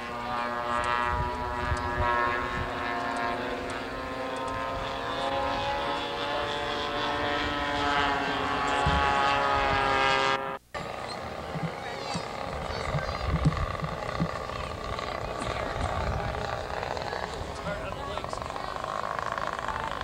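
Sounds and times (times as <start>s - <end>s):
model airplane engine flying past: 0.0s - 20.0s.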